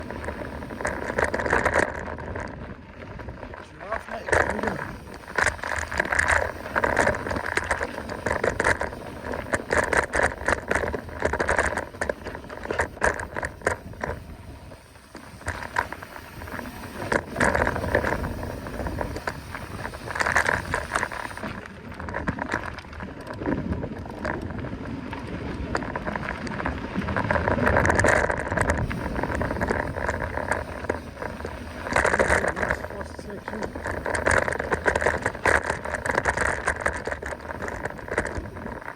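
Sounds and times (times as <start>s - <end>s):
bike rattling and clattering: 0.0s - 38.9s
tyres on dirt trail: 0.0s - 38.9s.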